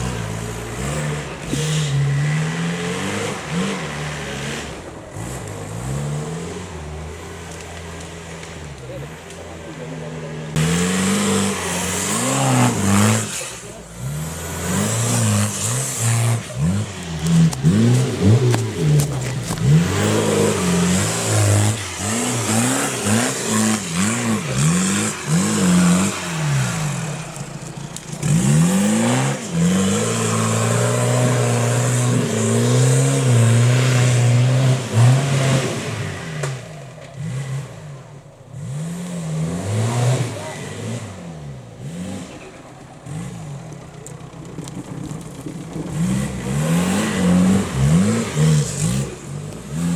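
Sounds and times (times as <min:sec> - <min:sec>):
engine revving: 0:00.0 - 0:49.9.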